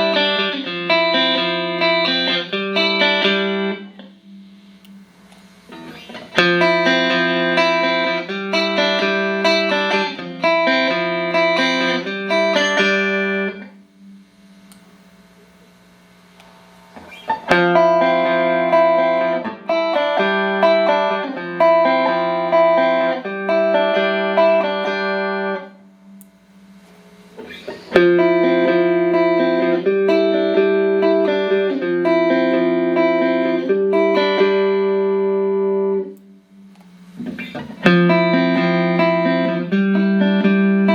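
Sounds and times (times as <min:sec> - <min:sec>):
clean electric guitar chords: 0:00.0 - 0:40.9.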